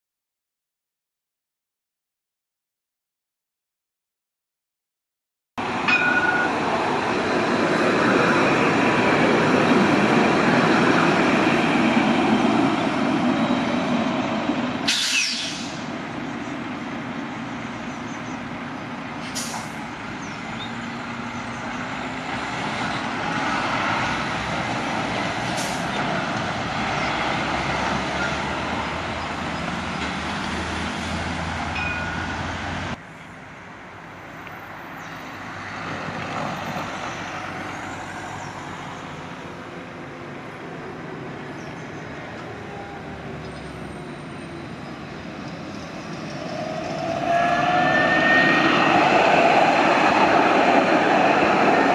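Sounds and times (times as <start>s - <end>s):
road traffic passing: 5.6s - 51.9s
tram rolling slowly: 5.6s - 51.9s.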